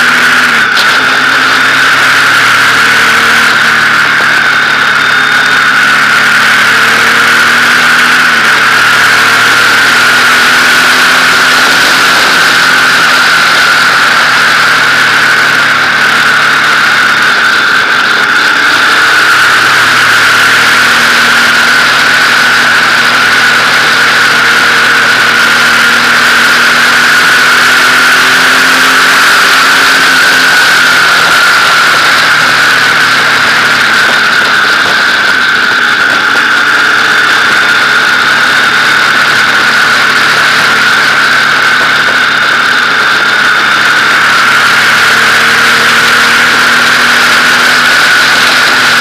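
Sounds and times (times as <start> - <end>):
motorcycle engine running: 0.0 - 49.0
rush of riding noise: 0.0 - 49.0.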